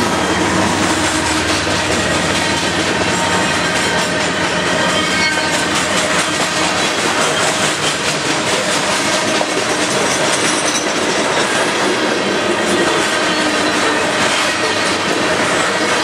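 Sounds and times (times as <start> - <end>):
freight train wheels rumbling: 0.0 - 16.0
wheels clicking over rail joints: 0.4 - 16.0.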